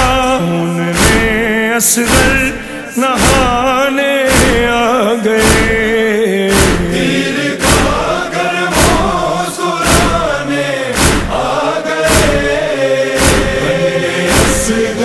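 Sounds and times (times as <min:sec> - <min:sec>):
male chorus chanting: 0:00.0 - 0:15.0
heavy beat: 0:01.0 - 0:15.0.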